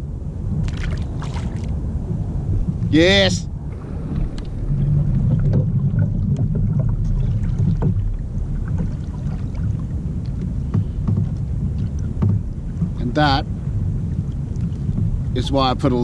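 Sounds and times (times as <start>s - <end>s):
wind rumbling on microphone: 0.0s - 16.0s
water lapping against kayak: 0.5s - 16.0s.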